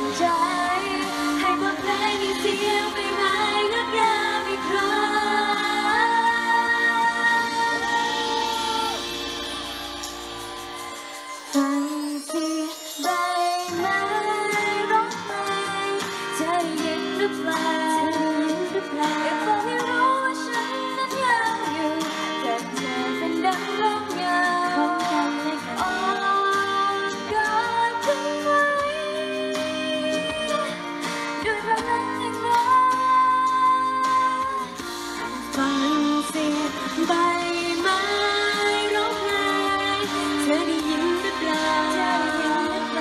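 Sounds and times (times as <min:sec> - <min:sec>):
backing track over loudspeakers: 0:00.0 - 0:43.0
woman singing pop ballad: 0:00.0 - 0:43.0.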